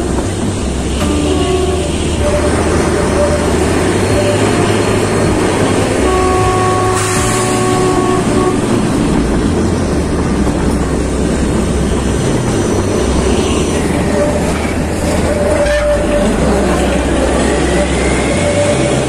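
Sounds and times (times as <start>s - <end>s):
train wheels rumbling and rattling: 0.0s - 19.0s.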